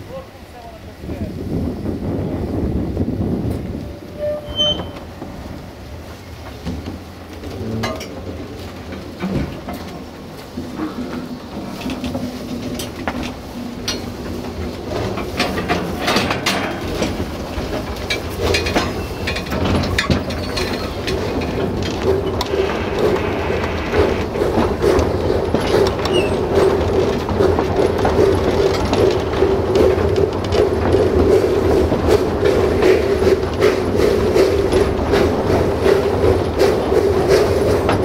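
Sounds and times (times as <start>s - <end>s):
steam train running: 0.0s - 38.0s
carriages rattling: 1.6s - 38.0s
wheels clicking: 2.9s - 38.0s.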